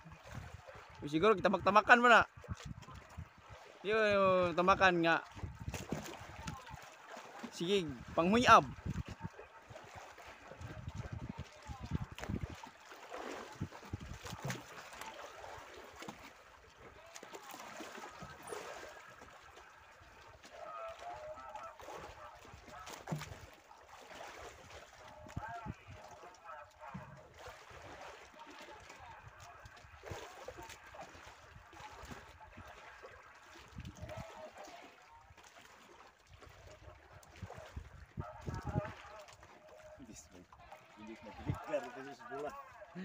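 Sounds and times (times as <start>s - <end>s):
water lapping against boat hull: 0.0s - 43.0s.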